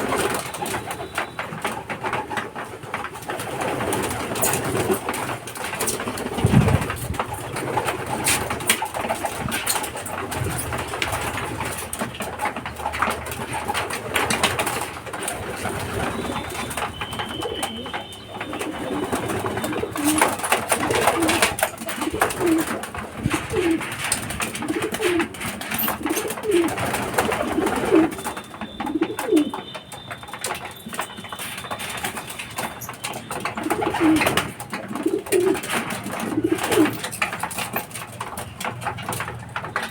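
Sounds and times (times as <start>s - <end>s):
birds clicking and rustling: 0.0s - 39.9s
pigeons cooing: 3.3s - 29.8s, 30.4s - 39.9s.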